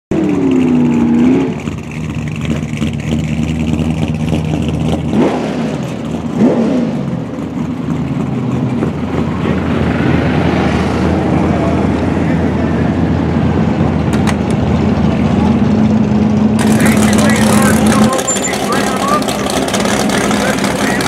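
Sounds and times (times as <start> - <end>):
car engine idling and revving: 0.1 - 21.0.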